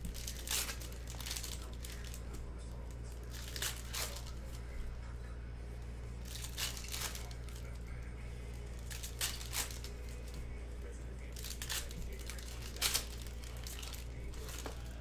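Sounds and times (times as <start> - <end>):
foil wrappers crinkling and tearing: 0.0 - 4.6, 6.2 - 15.0
steady low hum: 0.0 - 15.0.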